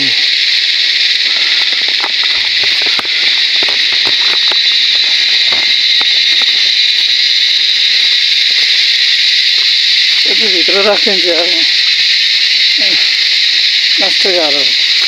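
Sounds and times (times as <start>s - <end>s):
shrill insect chorus: 0.0s - 15.0s.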